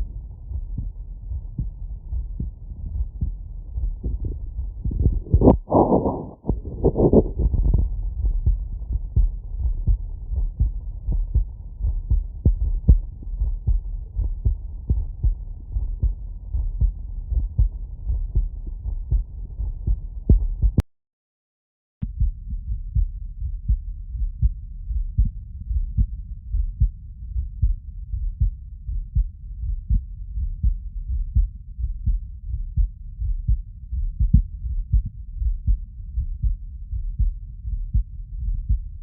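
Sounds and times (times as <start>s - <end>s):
heartbeat through stethoscope: 0.0s - 20.8s, 22.0s - 39.0s.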